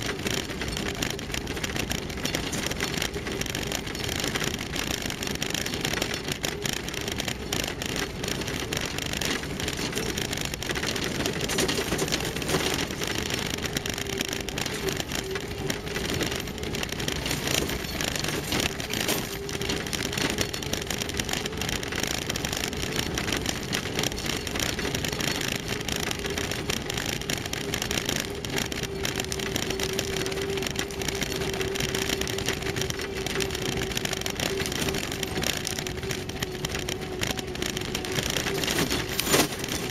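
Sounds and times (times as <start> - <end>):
rattles and knocks: 0.0 - 39.9
vehicle engine and whine: 0.0 - 39.9.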